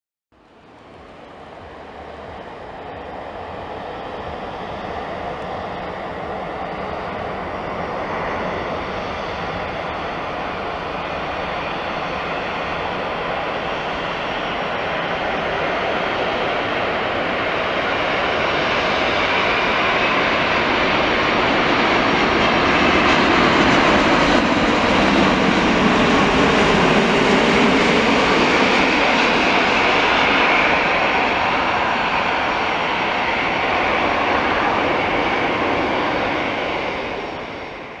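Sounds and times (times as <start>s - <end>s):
jet airliner roar: 0.4s - 38.0s.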